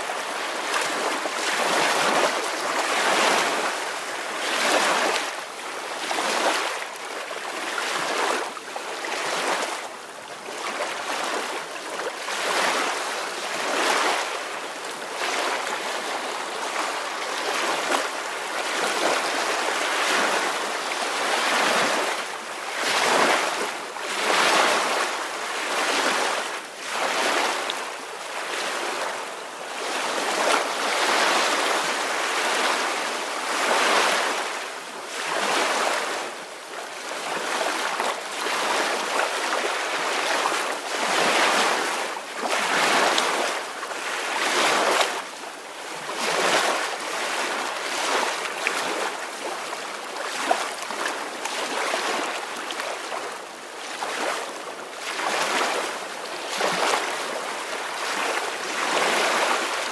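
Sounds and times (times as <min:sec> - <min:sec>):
small ocean waves washing: 0:00.0 - 0:59.9.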